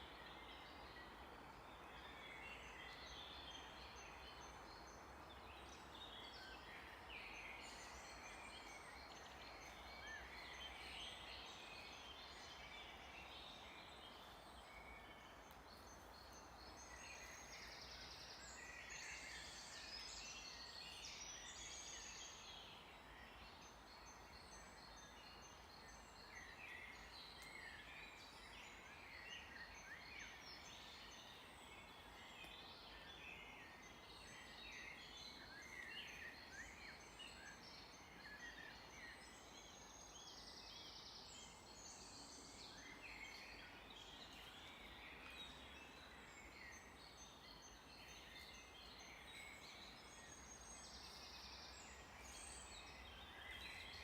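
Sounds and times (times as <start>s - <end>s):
background hiss: 0.0s - 54.0s
songbirds singing and calling: 0.0s - 54.0s.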